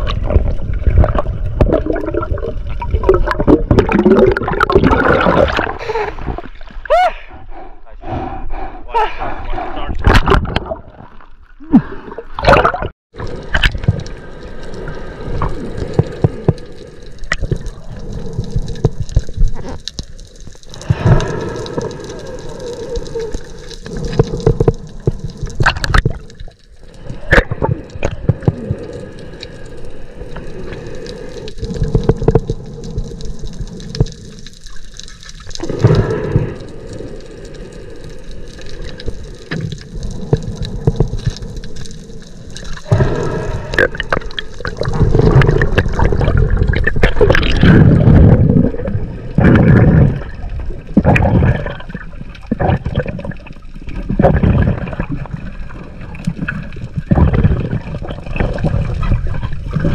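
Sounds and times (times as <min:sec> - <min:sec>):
water rushing and gurgling underwater: 0:00.0 - 0:59.9.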